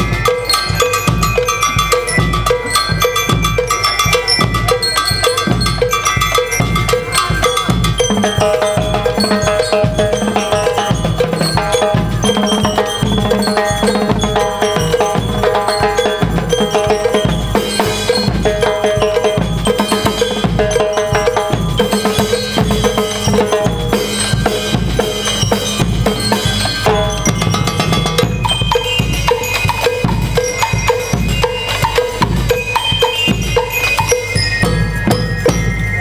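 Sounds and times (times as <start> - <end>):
bass drum and snare march: 0.0 - 36.0
bell lyre melody: 0.0 - 36.0.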